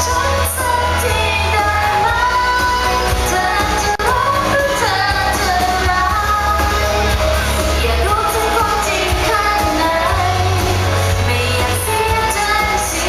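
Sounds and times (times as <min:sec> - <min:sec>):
pop backing music with heavy bass: 0:00.0 - 0:13.0
woman singing into microphone: 0:00.0 - 0:13.0.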